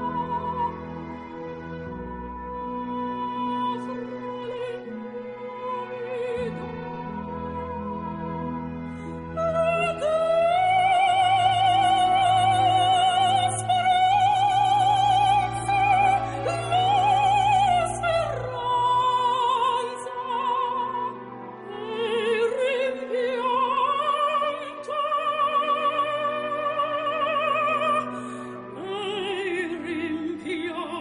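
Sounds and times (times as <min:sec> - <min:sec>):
operatic singing with vibrato: 0:00.0 - 0:31.0.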